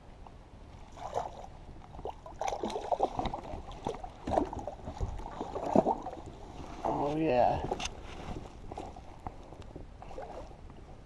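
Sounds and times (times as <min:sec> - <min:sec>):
water splashing against kayak: 0:00.8 - 0:10.6.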